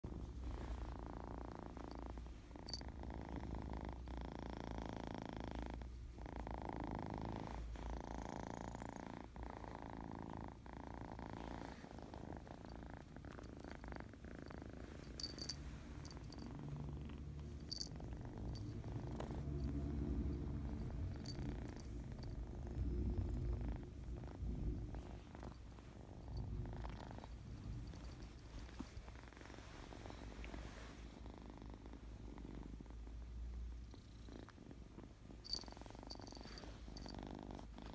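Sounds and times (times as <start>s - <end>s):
kitten purring: 0.0s - 37.9s.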